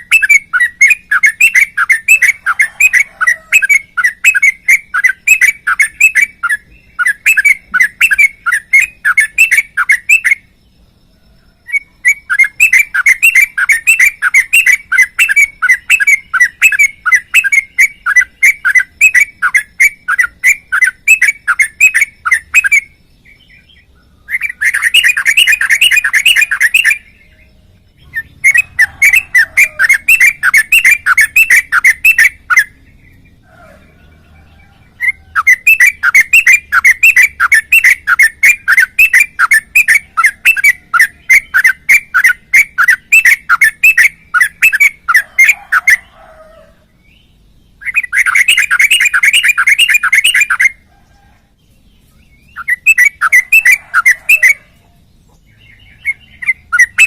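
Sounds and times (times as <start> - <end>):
bulbul singing whistled notes: 0.0 - 46.2, 47.0 - 50.9, 51.8 - 57.0.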